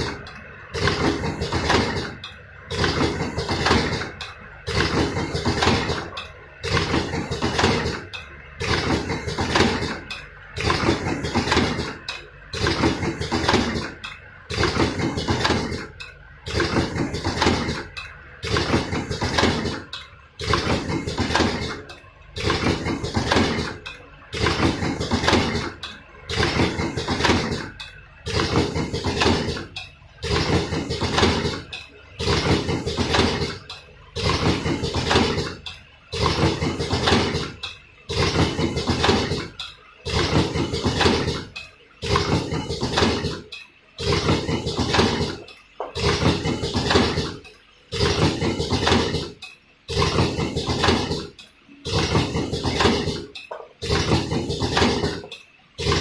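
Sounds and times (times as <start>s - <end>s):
cartoning machine clattering: 0.0s - 56.0s.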